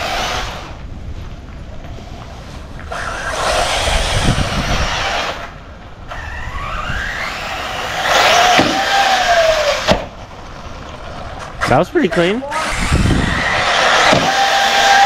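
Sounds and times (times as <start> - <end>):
rc car motor whine: 0.0 - 0.8, 2.0 - 15.0.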